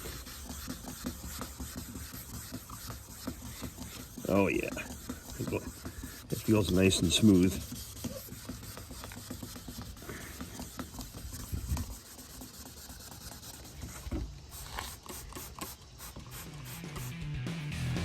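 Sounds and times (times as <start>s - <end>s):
abrasive pad scratching plastic: 0.0s - 17.1s.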